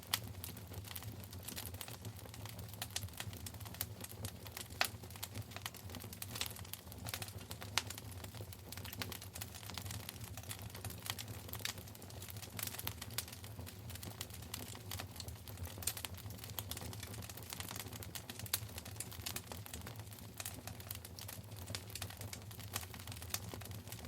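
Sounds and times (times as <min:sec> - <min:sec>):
fire popping and snapping: 0:00.0 - 0:24.0
low rumble of burning fire: 0:00.0 - 0:24.0.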